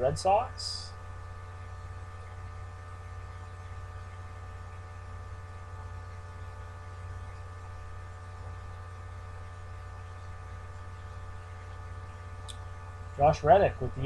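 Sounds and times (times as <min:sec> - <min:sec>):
electrical mains hum: 0:00.0 - 0:14.0
even buzz of constant tones: 0:00.0 - 0:14.0.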